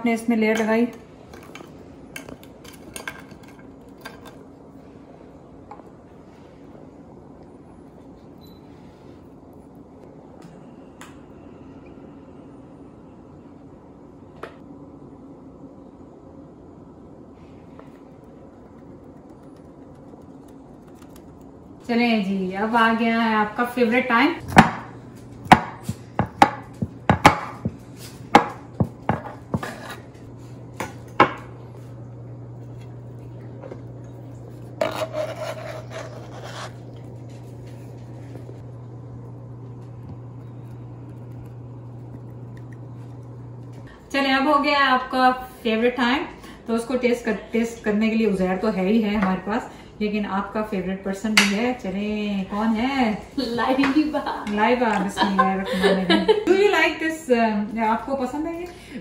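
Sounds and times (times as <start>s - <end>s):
low room hum: 0.0s - 59.0s.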